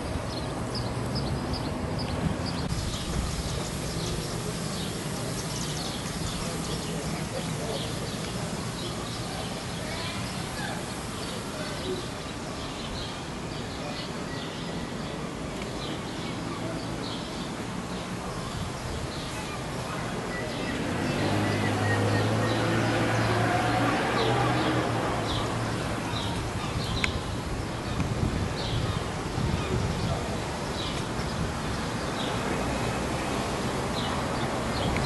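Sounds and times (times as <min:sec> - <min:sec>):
small birds chirping: 0:00.0 - 0:23.4, 0:24.2 - 0:35.0.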